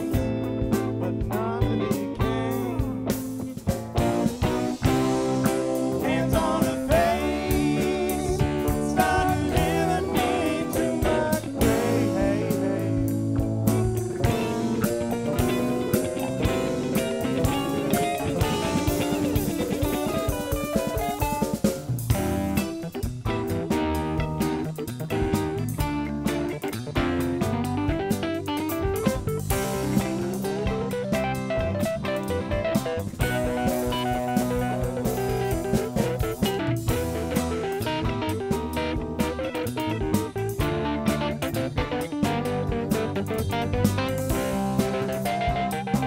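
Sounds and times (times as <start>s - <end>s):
electric guitar: 0.0s - 46.0s
live band playing: 0.0s - 46.0s.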